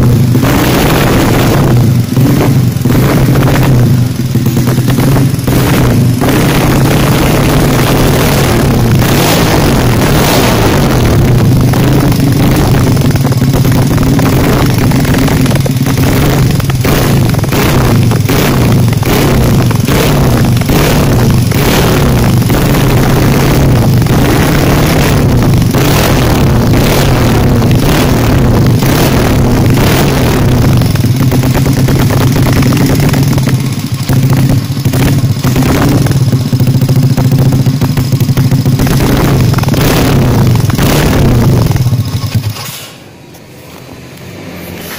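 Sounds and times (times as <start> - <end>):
motorcycle engine idling with throttle blips: 0.0 - 44.9.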